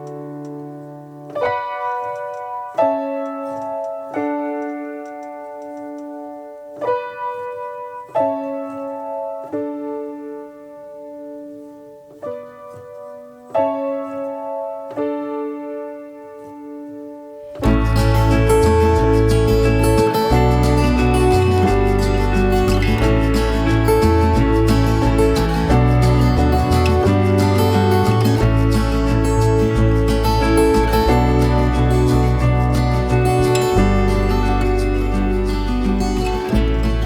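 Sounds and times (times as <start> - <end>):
slow piano chords: 0.0 - 37.0.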